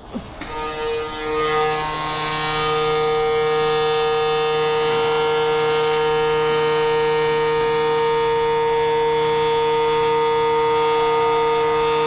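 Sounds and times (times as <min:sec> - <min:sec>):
welding arc buzzing: 0:00.0 - 0:12.0.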